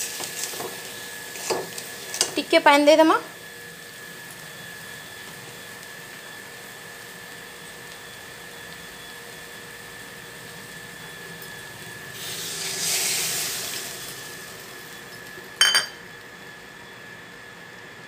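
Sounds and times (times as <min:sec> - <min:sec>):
water sizzling in hot oil: 0:00.0 - 0:16.3.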